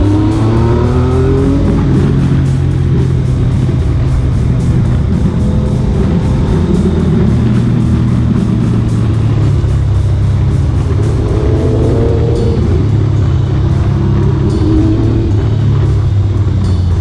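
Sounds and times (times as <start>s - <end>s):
motorcycle engine running: 0.0s - 17.0s
music with guitar: 0.0s - 17.0s.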